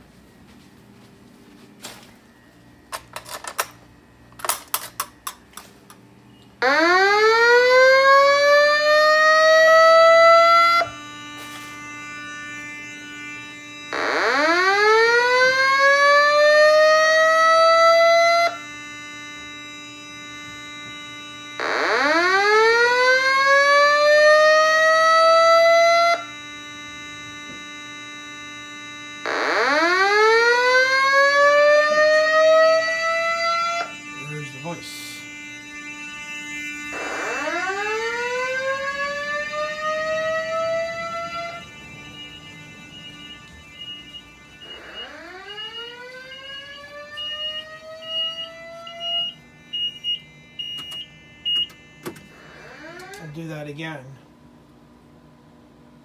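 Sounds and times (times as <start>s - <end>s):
fire alarm whoop tone: 6.3s - 54.0s.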